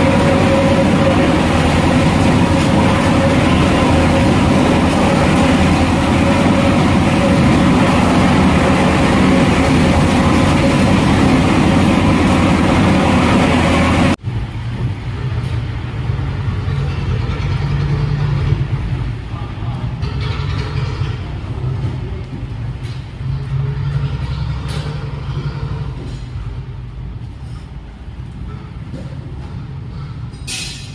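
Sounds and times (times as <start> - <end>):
boat engine droning: 0.0 - 27.3
low engine hum: 0.0 - 30.4.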